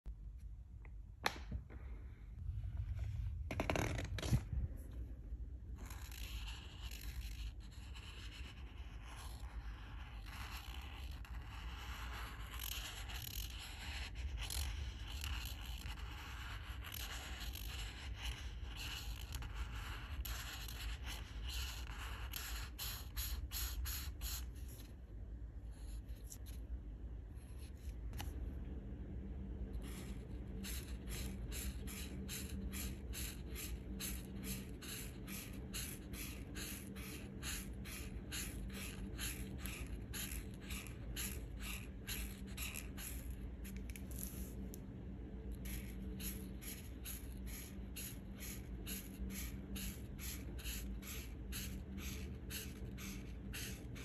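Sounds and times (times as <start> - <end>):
marker scraping on paper: 3.0 - 4.4, 5.7 - 24.9, 29.7 - 44.8, 45.5 - 54.0.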